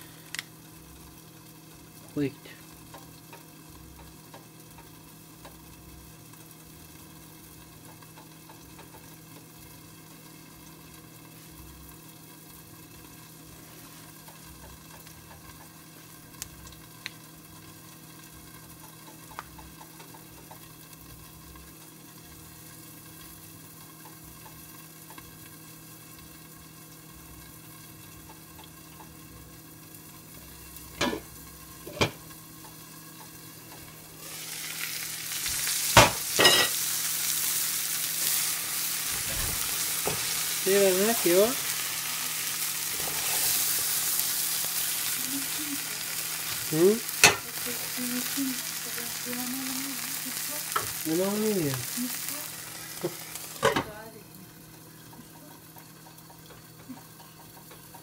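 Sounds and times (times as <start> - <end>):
faint sizzle in covered pot: 0.0 - 58.0.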